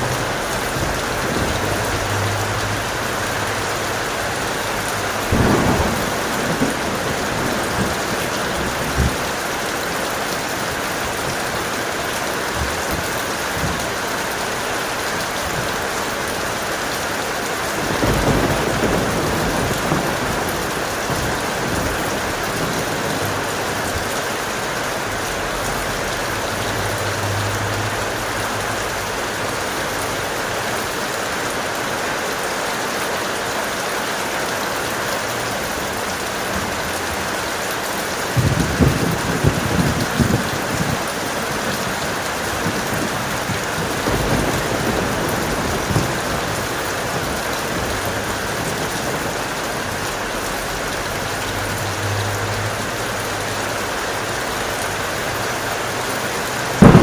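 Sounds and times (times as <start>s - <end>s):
thunder rumbling: 0.0s - 30.7s, 38.2s - 52.9s, 56.6s - 57.0s
heavy rain: 0.0s - 57.0s.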